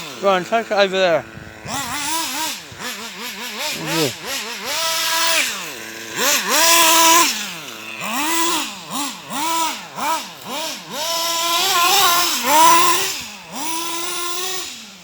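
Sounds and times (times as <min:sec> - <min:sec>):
small nitro engine revving: 0:00.0 - 0:15.0.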